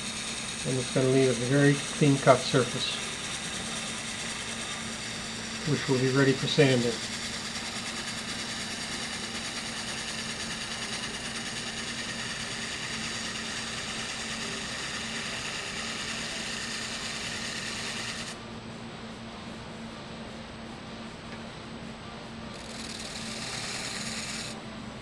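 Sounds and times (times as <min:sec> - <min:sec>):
gouge cutting hiss: 0:00.0 - 0:18.4, 0:22.6 - 0:24.6
wood lathe motor hum: 0:00.0 - 0:18.5, 0:22.5 - 0:24.6.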